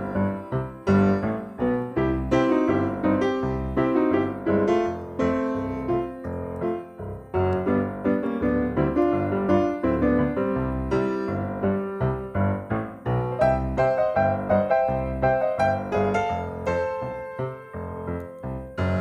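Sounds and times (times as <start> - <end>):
piano background music with beat: 0.0 - 19.0.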